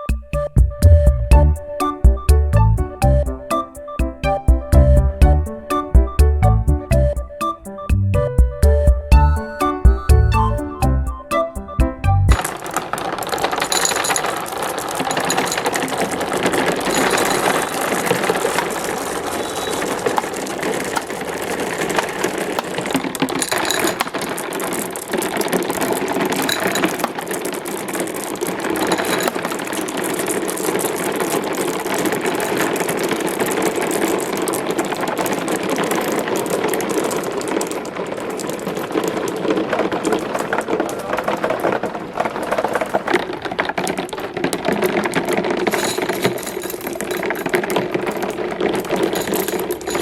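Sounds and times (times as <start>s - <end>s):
marbles rolling and clattering on tracks: 0.0s - 8.0s, 8.6s - 50.0s.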